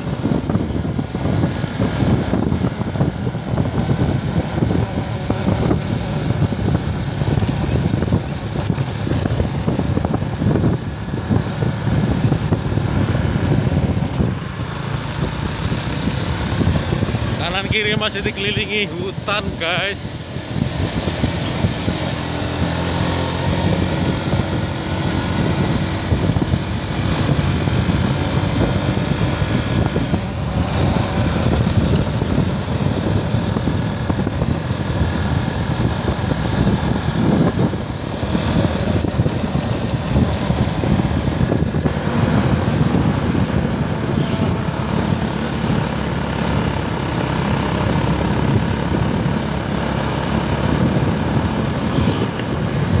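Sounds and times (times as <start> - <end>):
motorcycle running: 0.0 - 53.0.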